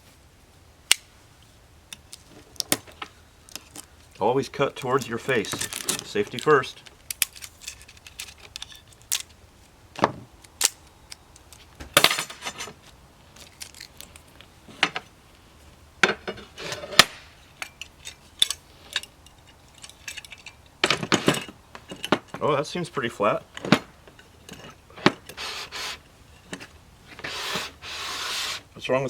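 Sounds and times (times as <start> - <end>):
metal parts clinking: 1.9 - 9.4, 10.4 - 15.1, 16.0 - 27.9.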